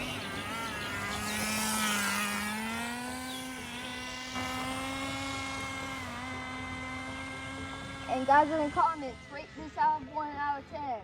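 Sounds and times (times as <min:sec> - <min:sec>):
rc car engine high-pitched whine: 0:00.0 - 0:11.0.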